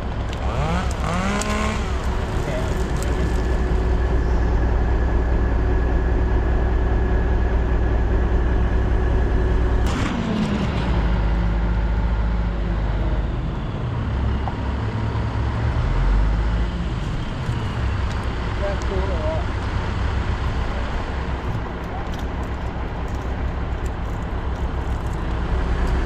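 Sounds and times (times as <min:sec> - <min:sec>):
heavy engine running: 0:00.0 - 0:26.0.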